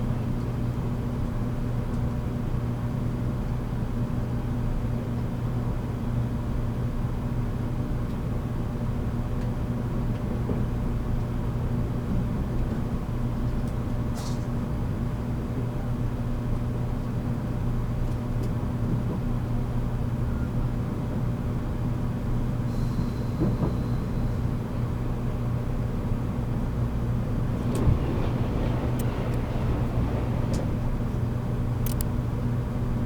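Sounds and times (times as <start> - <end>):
train interior rumble and hum: 0.0 - 33.0.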